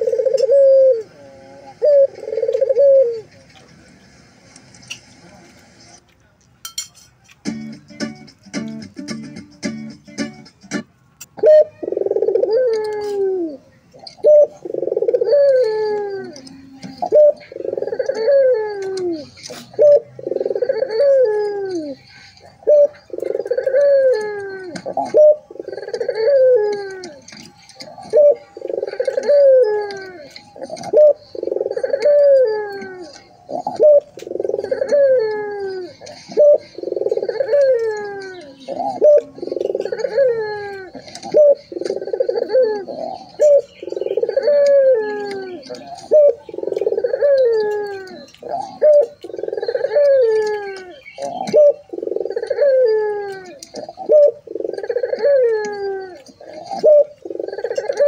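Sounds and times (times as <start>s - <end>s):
dove cooing: 0.0s - 3.4s, 11.4s - 58.0s.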